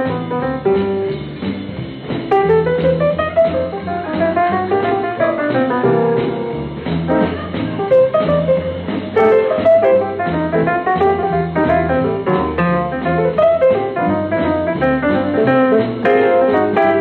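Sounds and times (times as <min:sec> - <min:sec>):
jazz piano playing: 0:00.0 - 0:17.0.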